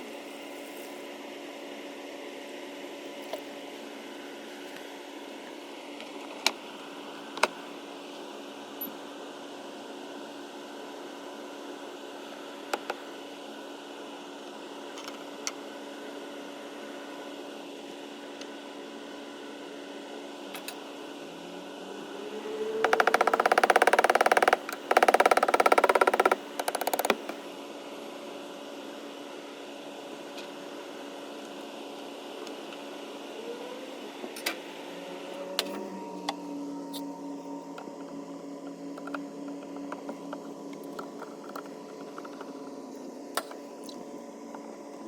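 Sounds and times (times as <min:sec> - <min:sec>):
evaporative cooler motor humming: 0:00.0 - 0:45.0.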